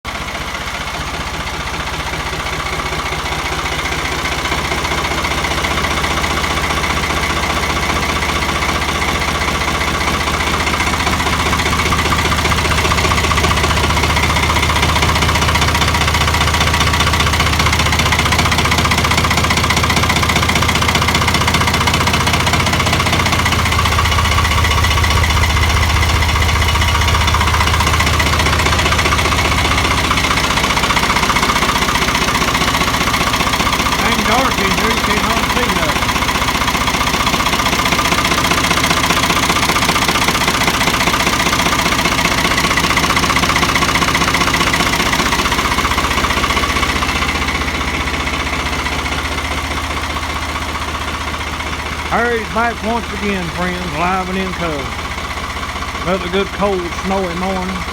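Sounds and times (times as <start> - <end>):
tractor engine idling: 0.1 - 57.9.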